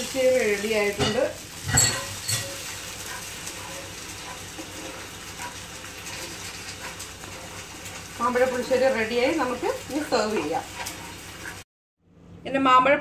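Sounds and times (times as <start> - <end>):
curry sizzling in a pan: 0.0 - 11.7.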